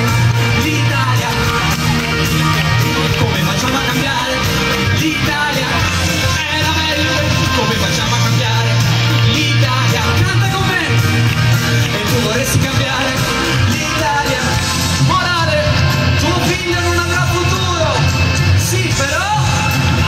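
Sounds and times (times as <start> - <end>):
man singing: 0.0 - 20.0
pop-rock song through a pa: 0.0 - 20.0.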